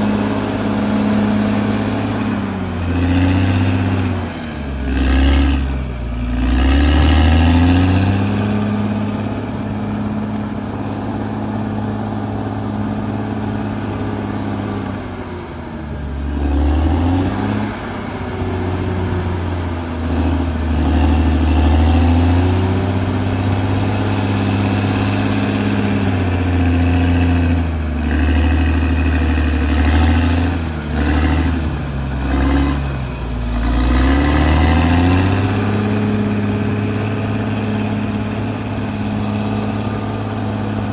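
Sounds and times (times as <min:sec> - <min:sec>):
bulldozer diesel engine revving: 0:00.0 - 0:40.9.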